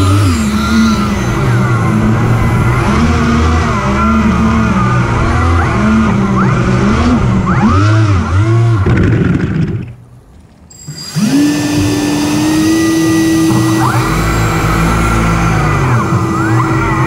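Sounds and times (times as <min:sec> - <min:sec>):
electric motors whining: 0:00.0 - 0:08.9, 0:10.7 - 0:17.0
lift fan hum: 0:00.0 - 0:09.0, 0:10.0 - 0:17.0.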